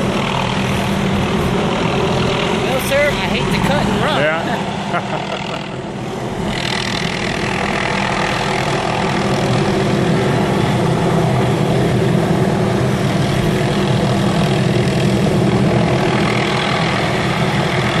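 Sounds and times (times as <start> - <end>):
helicopter engine and rotor drone: 0.0 - 18.0.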